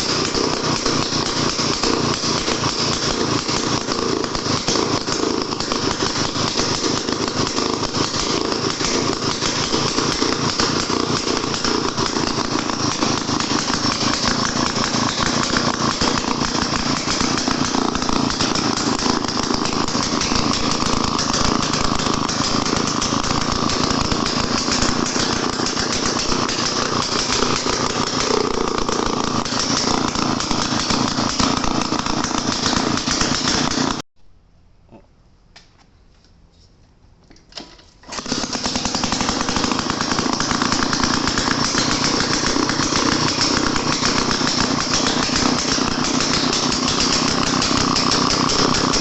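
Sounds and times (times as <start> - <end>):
small engine running: 0.0 - 34.0, 37.6 - 49.0.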